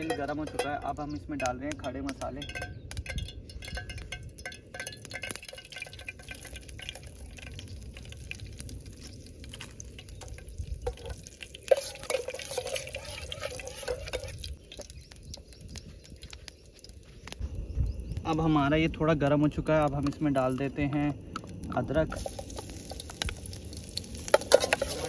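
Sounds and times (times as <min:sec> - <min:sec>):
spices sizzling in hot oil: 0:00.0 - 0:25.0
wind rumble on microphone: 0:00.3 - 0:11.5, 0:13.2 - 0:25.0.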